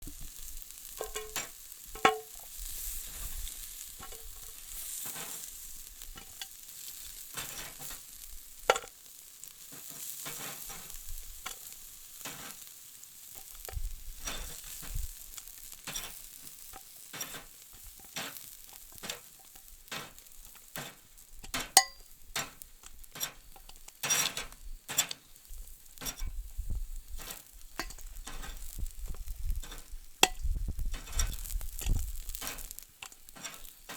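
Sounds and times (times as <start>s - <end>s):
fat crackling and popping: 0.0s - 33.9s
food sizzling on grill: 0.0s - 33.9s.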